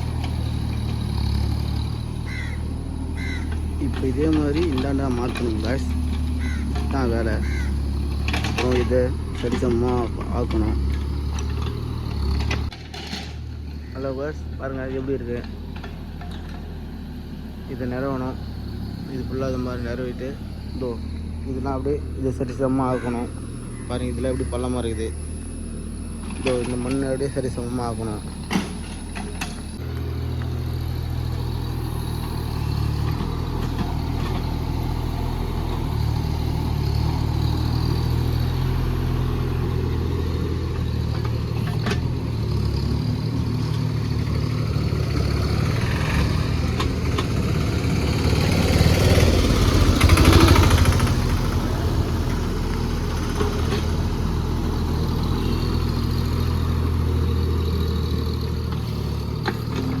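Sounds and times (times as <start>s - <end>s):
mini excavator engine humming: 0.0s - 60.0s.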